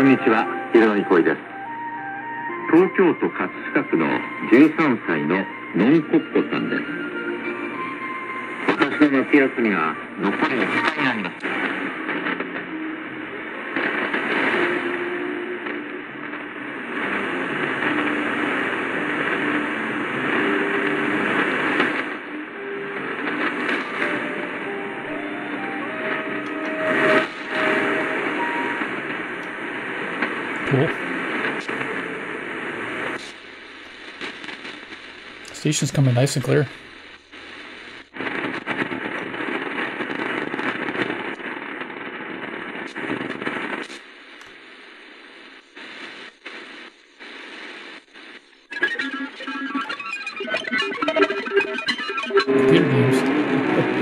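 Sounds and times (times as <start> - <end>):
radio static hissing: 0.0 - 54.0.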